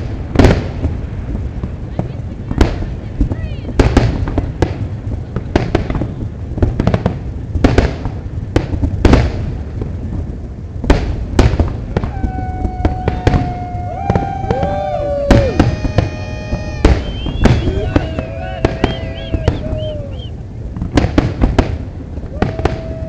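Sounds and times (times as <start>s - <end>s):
constant low rumble: 0.0s - 23.0s
fireworks bangs and explosions: 0.0s - 23.0s.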